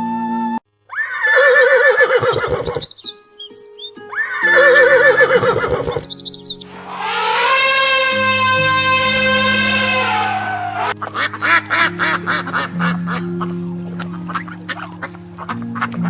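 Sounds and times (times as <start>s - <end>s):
quavering farm animal calls: 0.9s - 16.0s
background music: 2.3s - 16.0s.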